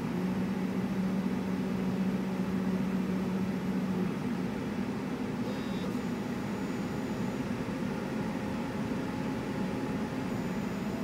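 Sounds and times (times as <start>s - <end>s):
laser cutter humming: 0.0s - 11.0s.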